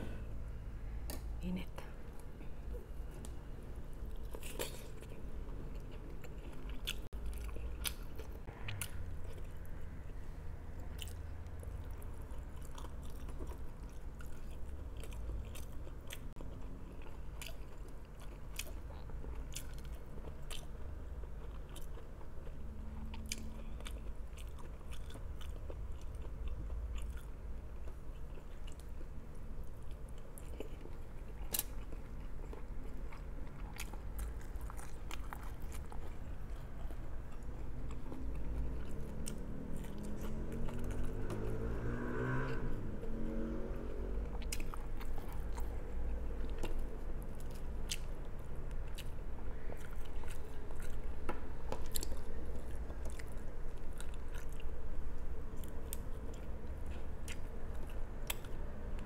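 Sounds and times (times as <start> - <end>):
low room hum: 0.0 - 59.0
person chewing: 2.0 - 59.0.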